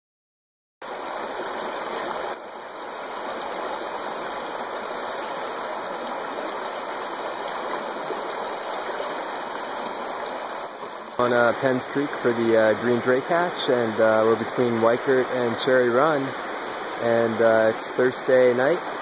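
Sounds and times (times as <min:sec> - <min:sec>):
creek water rippling past rocks: 0:00.8 - 0:19.0.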